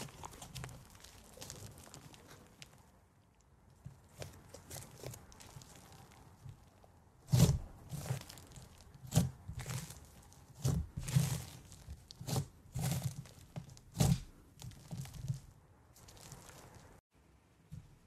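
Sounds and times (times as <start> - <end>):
fingers kneading sticky slime: 0.0 - 17.0.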